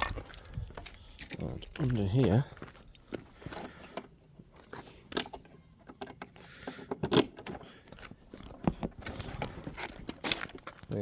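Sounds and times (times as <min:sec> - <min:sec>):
handling knocks and clicks: 0:00.0 - 0:11.0.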